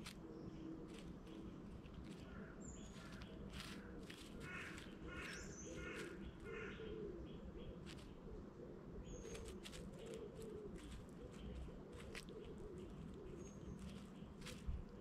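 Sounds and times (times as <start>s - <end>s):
low wavering bird cooing: 0.0s - 15.0s.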